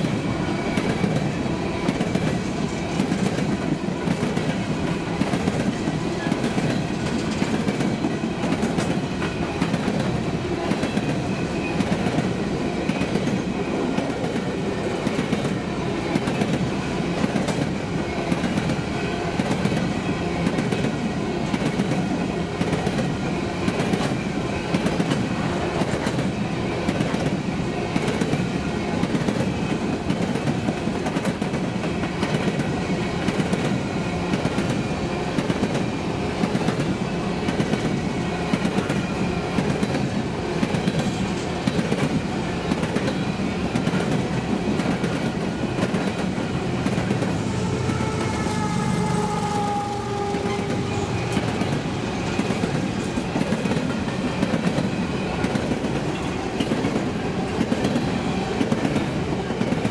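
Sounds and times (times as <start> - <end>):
freight train rumble: 0.0 - 59.9
train wheels clacking over rails: 0.0 - 59.9.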